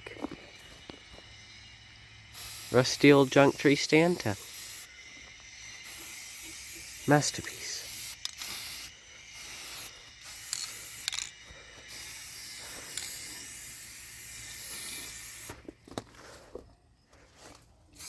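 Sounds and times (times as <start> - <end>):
spray paint can hissing: 0.2 - 15.8.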